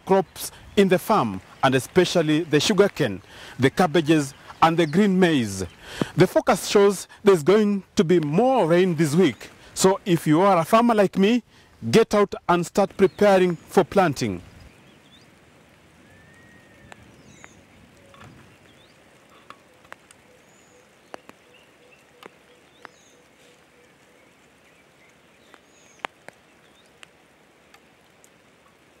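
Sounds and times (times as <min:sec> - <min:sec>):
rain hiss: 0:00.0 - 0:29.0
raindrops tapping: 0:00.0 - 0:29.0.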